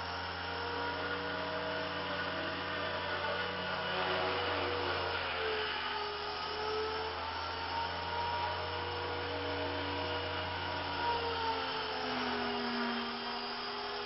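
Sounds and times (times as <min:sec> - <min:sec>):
toy helicopter rotor whine: 0:00.0 - 0:14.0.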